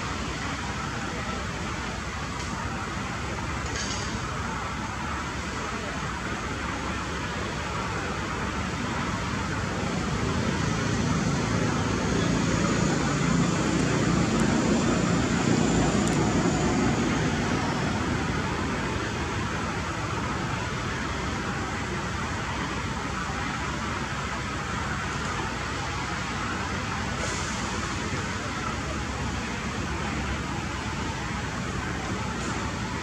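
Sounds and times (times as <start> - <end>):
distant traffic rumble: 0.0 - 33.0.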